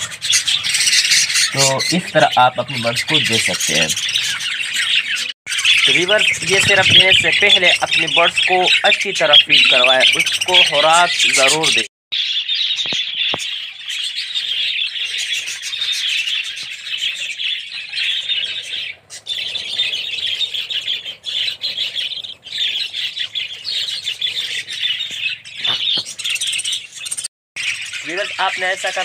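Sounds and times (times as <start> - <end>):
budgerigars chattering: 0.0 - 29.0.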